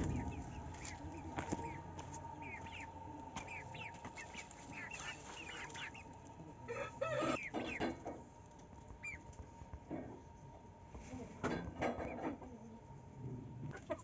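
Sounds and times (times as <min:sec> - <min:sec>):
chickens clucking: 0:00.0 - 0:10.3, 0:11.4 - 0:12.8, 0:13.6 - 0:14.0.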